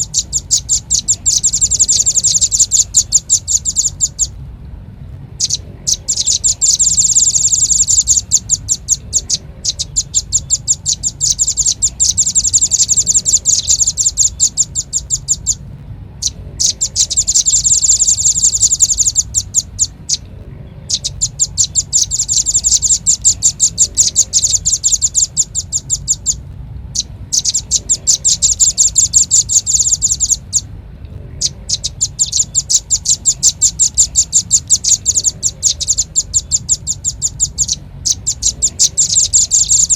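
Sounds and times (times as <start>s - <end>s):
bird chirping: 0.0s - 39.9s
faint low hum: 0.0s - 39.9s.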